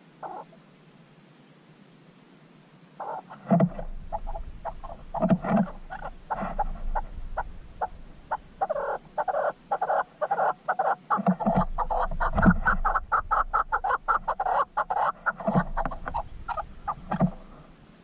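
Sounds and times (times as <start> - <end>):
animal croaking calls: 0.2 - 0.6, 3.0 - 17.8.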